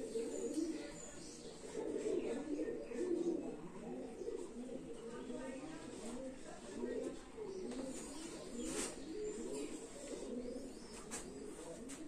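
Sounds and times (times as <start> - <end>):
bird cooing: 0.0 - 12.0.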